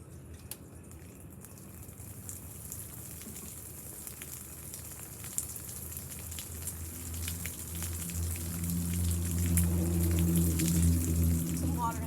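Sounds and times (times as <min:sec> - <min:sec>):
water splashing onto fan: 0:01.4 - 0:12.0.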